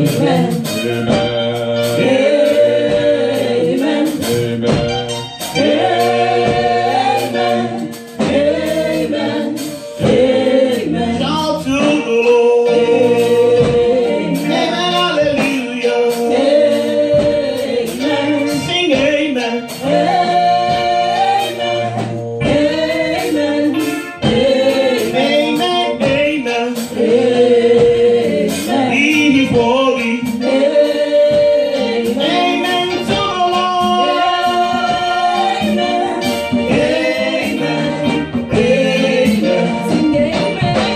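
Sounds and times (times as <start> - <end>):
women singing gospel song: 0.0 - 40.9.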